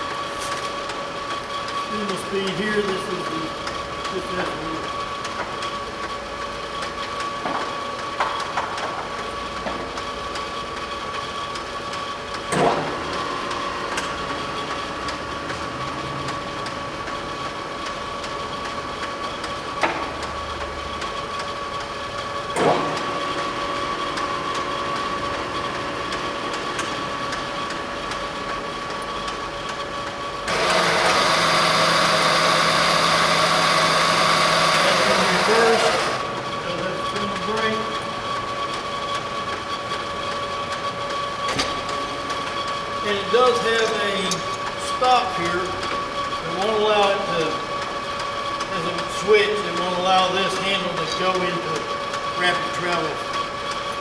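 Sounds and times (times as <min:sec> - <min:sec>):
milling machine gear whine: 0:00.0 - 0:08.2, 0:09.2 - 0:54.0.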